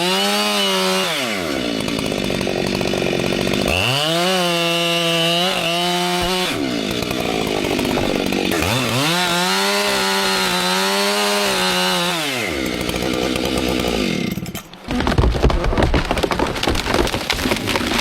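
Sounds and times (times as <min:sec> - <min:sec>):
chainsaw engine revving and idling: 0:00.0 - 0:14.8.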